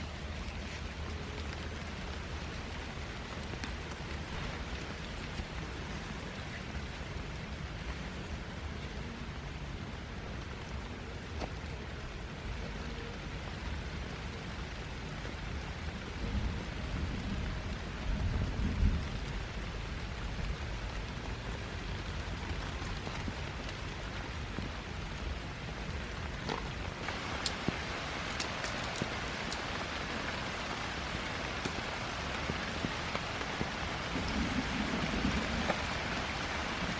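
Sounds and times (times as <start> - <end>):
heavy rain: 0.0 - 36.9.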